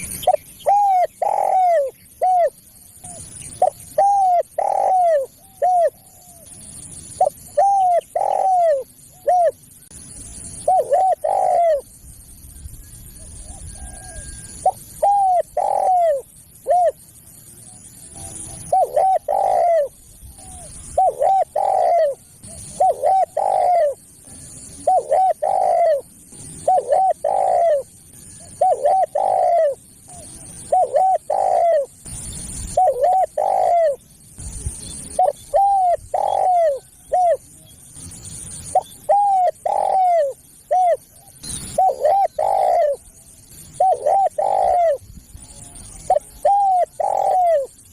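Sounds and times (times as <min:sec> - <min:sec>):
dove cooing: 0:00.0 - 0:09.6, 0:10.4 - 0:12.0, 0:13.0 - 0:37.7, 0:38.5 - 0:47.9.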